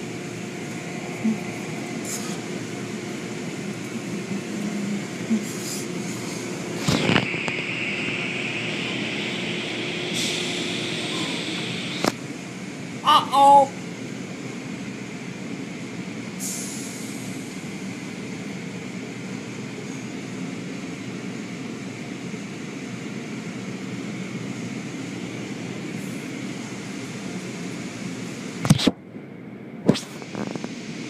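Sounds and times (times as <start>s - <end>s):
car wash machinery and spraying water: 0.0s - 31.0s.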